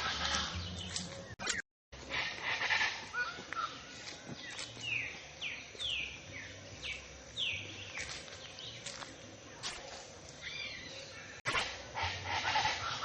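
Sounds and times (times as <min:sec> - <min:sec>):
soft outdoor background: 0:00.0 - 0:13.0.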